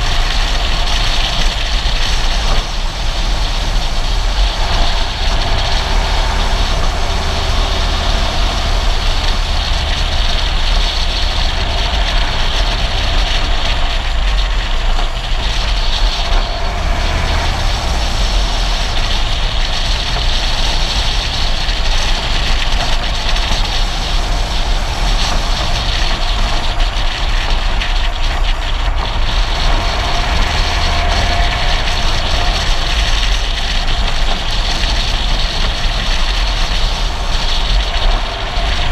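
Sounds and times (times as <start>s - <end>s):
wind and road noise: 0.0s - 38.9s
wind buffeting microphone: 0.0s - 38.9s.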